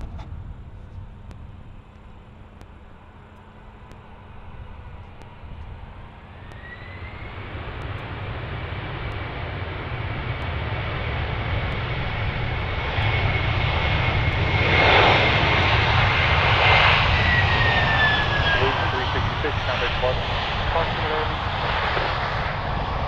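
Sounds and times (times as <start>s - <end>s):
jet engines at high power: 0.0s - 23.0s.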